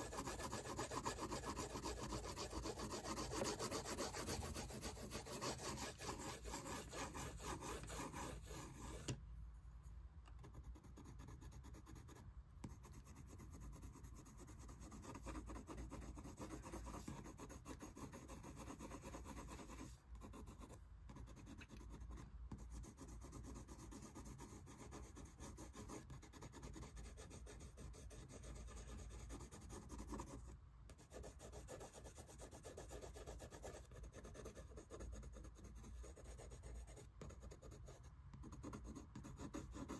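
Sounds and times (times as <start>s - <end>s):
pencil scratching on paper: 0.0s - 9.2s, 10.4s - 39.9s.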